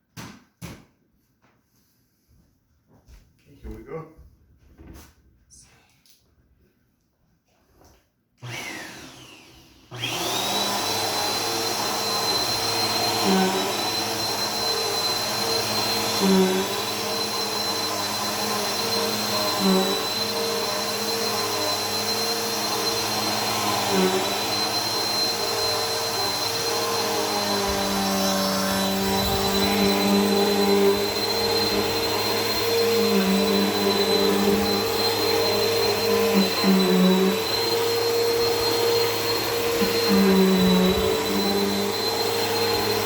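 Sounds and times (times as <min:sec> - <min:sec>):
vacuum cleaner whining: 0:08.4 - 0:43.0.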